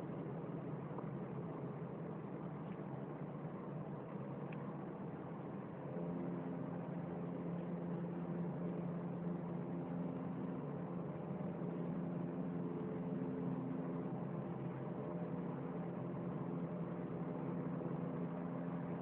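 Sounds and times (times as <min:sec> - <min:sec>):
droning hum in the sky: 0:00.0 - 0:19.0.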